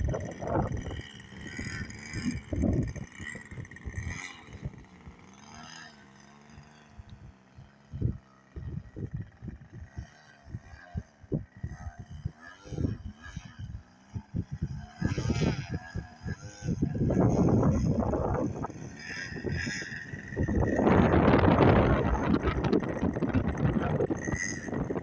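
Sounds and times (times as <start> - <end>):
wind buffeting microphone: 0.0 - 5.0, 7.9 - 25.0
model airplane engine whine: 0.0 - 25.0.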